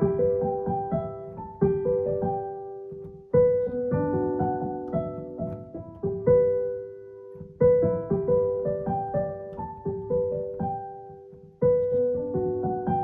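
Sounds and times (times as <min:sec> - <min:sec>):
gentle solo piano melody: 0:00.0 - 0:13.0.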